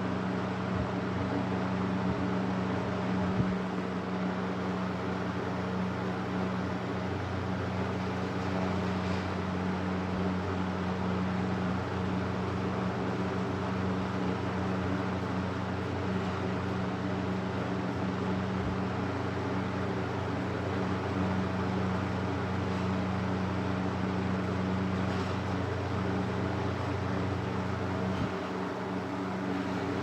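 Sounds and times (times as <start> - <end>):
air rushing from fan: 0.0 - 30.0
box fan motor hum: 0.0 - 30.0.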